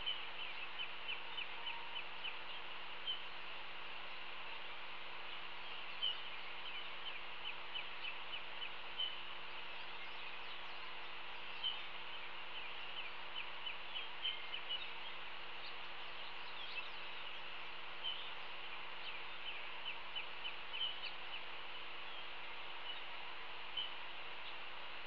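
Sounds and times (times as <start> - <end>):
distant birds chirping: 0.0 - 25.0.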